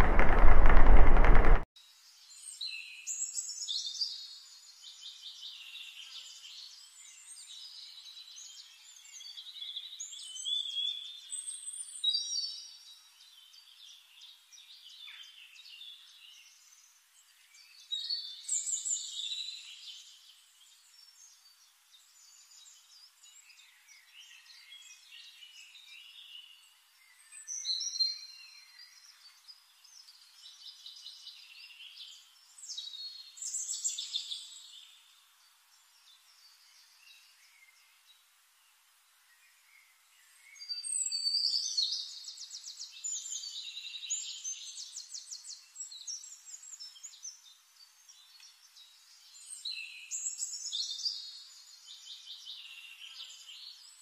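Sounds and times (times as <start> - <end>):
forest birds singing: 0.0 - 54.0.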